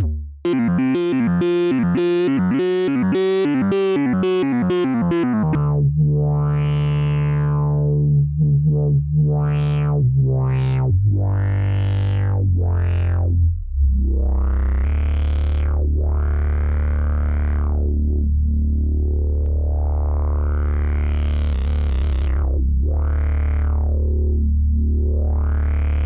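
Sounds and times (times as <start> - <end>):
synthesizer bass line with filter sweeps: 0.0 - 26.0.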